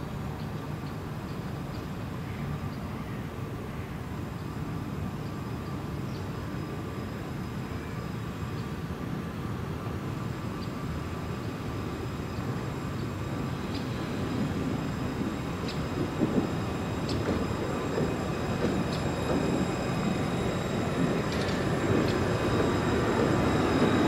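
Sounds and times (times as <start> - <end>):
tram rumbling on track: 0.0 - 24.0.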